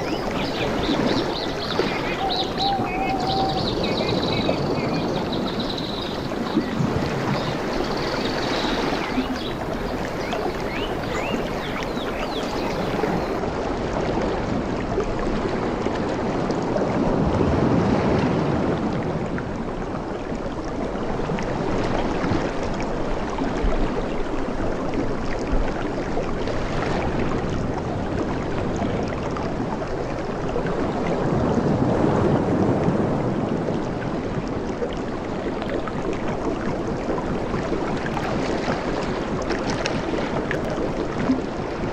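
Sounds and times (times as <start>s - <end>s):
ocean waves washing ashore: 0.0s - 41.9s.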